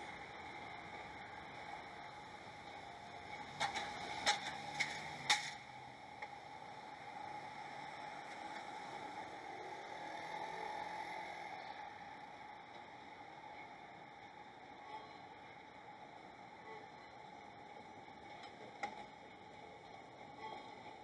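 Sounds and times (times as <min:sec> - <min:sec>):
faint hum: 0:00.0 - 0:21.0
steady hiss: 0:00.0 - 0:21.0.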